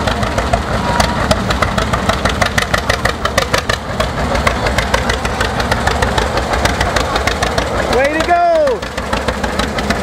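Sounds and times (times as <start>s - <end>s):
tractor engine popping: 0.0s - 10.0s.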